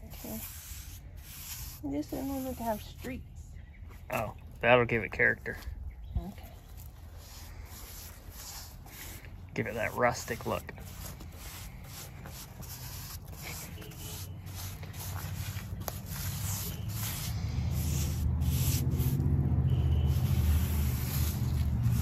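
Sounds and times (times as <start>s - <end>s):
paintbrush scratching on wood: 0.0s - 3.2s, 7.1s - 22.0s.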